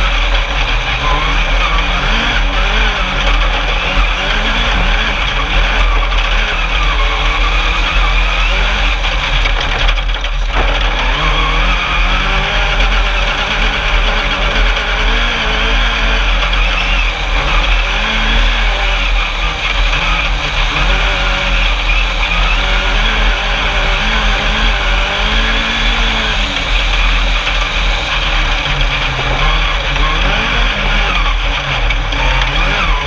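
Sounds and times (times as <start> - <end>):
race buggy engine revving: 0.0 - 33.0.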